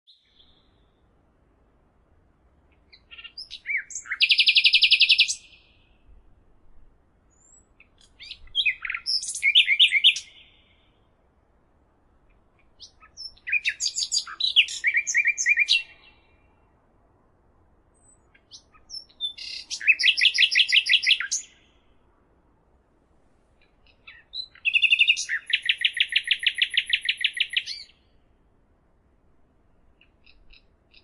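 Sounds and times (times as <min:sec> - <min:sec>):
songbird chirps and trills: 0:00.1 - 0:31.0.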